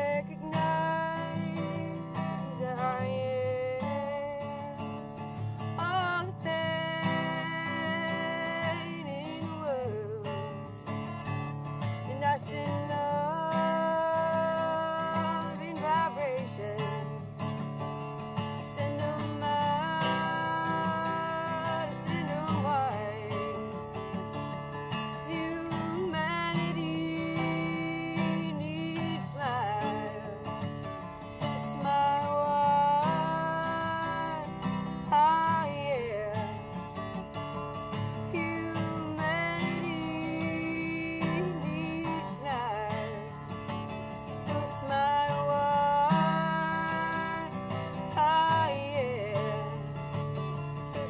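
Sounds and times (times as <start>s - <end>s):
acoustic guitar chords: 0.0s - 51.0s
woman singing: 0.0s - 51.0s.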